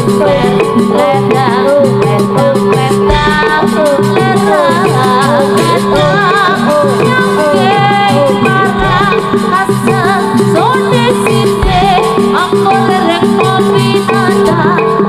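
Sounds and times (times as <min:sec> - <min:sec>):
dense repeating percussion: 0:00.0 - 0:13.8
sliding melody line: 0:00.0 - 0:15.0.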